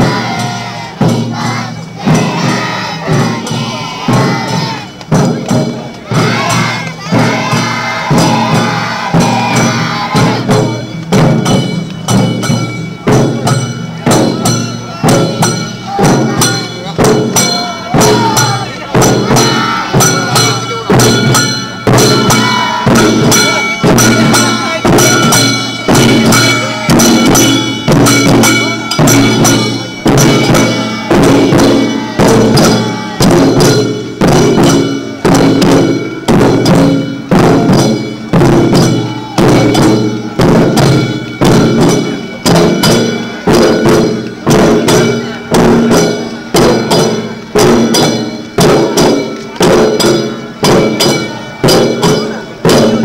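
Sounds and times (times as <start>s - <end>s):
brass hand cymbals ringing: 0.0s - 53.0s
taiko drums beaten with sticks: 0.0s - 53.0s.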